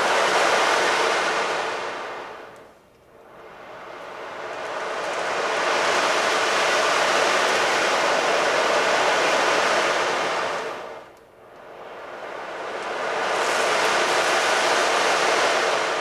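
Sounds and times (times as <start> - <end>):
surf-like rushing noise: 0.0 - 2.5, 3.5 - 11.1, 11.7 - 16.0.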